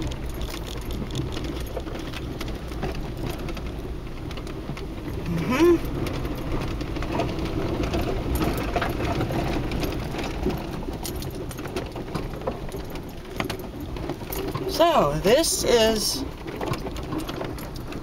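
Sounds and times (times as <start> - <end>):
rattles and knocks in cab: 0.0 - 15.0, 16.3 - 18.0
truck engine and road rumble: 0.0 - 18.0.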